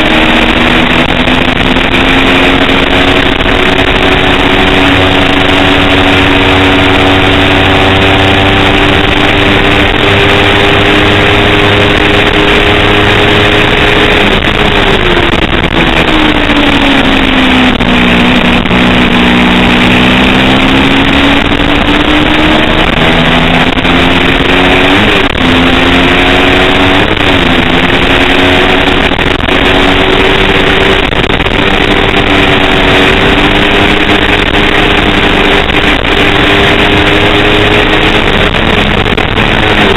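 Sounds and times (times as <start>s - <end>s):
motorcycle engine at high revs: 0.0s - 39.9s
wind rush: 0.0s - 39.9s.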